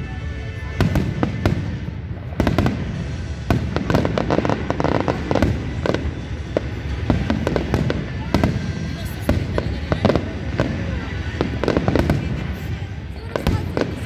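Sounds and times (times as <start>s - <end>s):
fireworks crackling: 0.0s - 14.0s
fireworks bangs: 0.1s - 14.0s.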